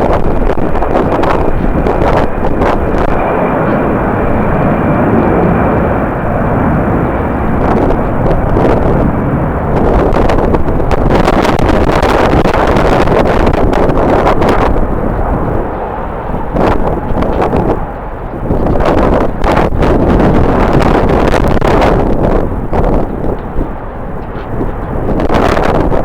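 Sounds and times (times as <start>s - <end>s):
jet engines running: 0.0s - 26.0s
wind buffeting microphone: 0.0s - 26.0s.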